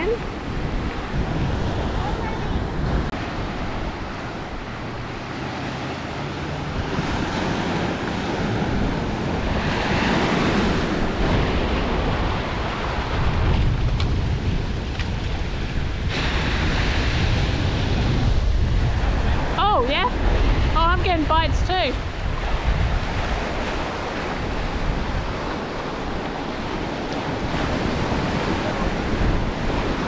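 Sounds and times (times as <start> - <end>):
waves washing against rocks: 0.0 - 30.0
wind rumbling on microphone: 0.0 - 30.0.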